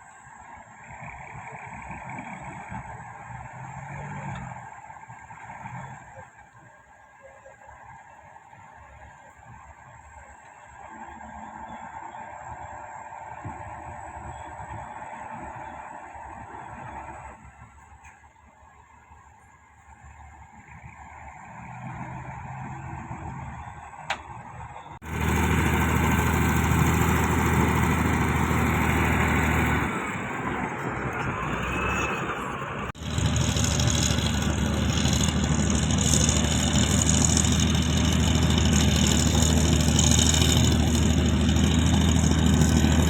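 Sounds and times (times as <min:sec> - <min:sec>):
heavy machinery diesel engine: 0:00.0 - 0:18.4, 0:19.2 - 0:43.0.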